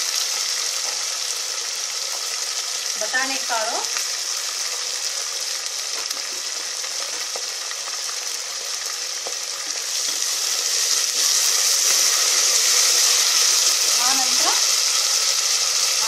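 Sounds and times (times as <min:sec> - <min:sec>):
vegetables frying in hot oil: 0:00.0 - 0:16.0.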